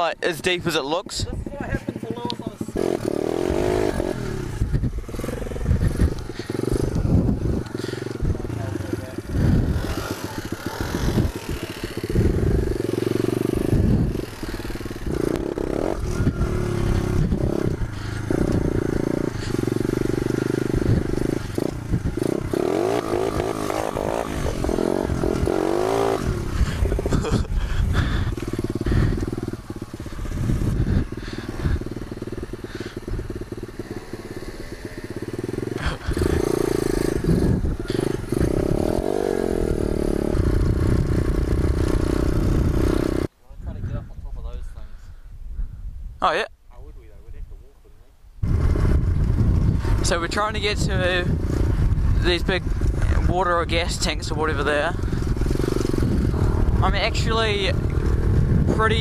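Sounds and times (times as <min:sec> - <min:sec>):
pit bike engine revving: 0:00.0 - 0:43.3, 0:48.4 - 0:59.0.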